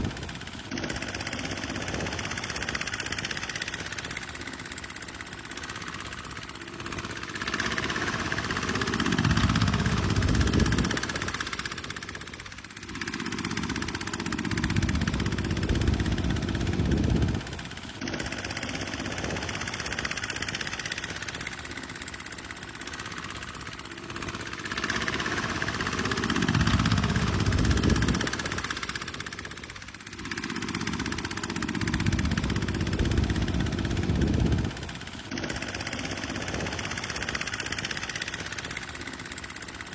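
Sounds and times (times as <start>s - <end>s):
tractor diesel engine working: 0.0s - 39.9s.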